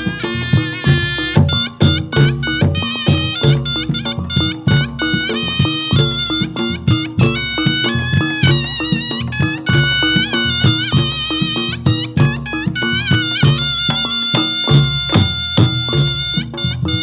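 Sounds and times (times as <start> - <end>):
drum strokes: 0.0 - 17.0
shrill double-reed melody: 0.0 - 17.0.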